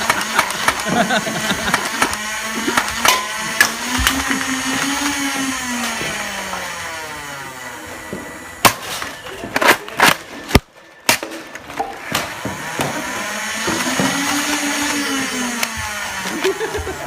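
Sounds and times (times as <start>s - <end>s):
small electric motor whining: 0.0s - 9.6s, 11.6s - 17.0s.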